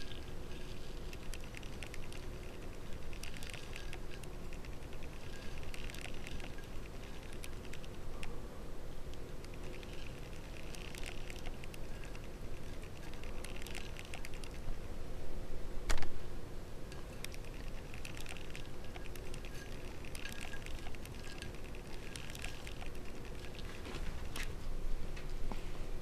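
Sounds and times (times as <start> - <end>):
fried chicken crackling: 0.0 - 8.3, 9.1 - 14.7, 17.0 - 24.5.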